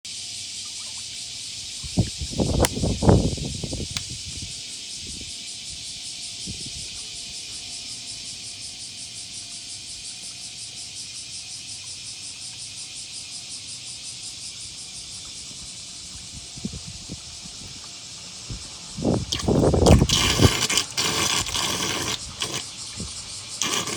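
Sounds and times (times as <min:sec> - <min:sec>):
insects trilling: 0:00.1 - 0:23.9.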